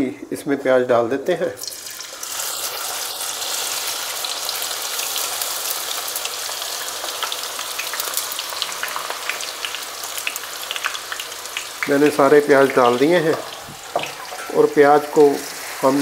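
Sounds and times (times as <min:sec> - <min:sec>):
onions sizzling in oil: 0:01.6 - 0:16.0.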